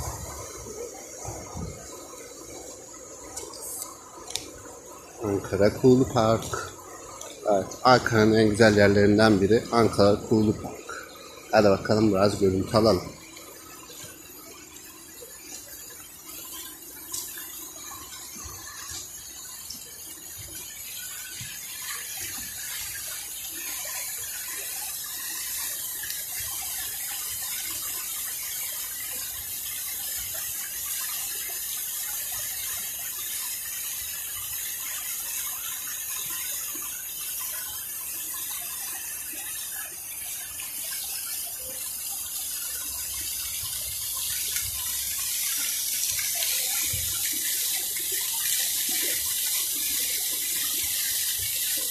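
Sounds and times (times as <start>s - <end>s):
fountain water splashing: 0.0s - 51.9s.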